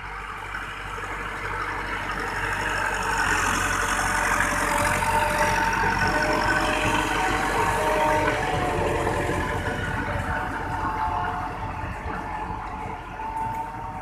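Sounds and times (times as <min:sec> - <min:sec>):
tractor diesel engine running: 0:00.0 - 0:14.0
water and mud churning: 0:00.0 - 0:14.0.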